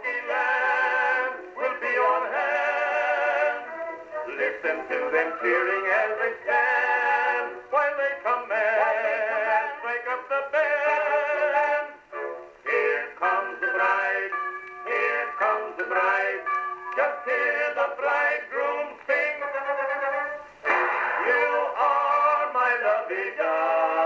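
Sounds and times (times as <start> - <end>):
old phonograph recording of comic duet: 0.0 - 24.0.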